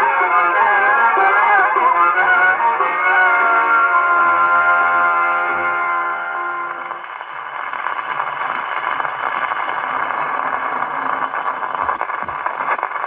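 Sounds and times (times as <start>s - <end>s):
record needle hiss and crackle: 0.0s - 13.0s.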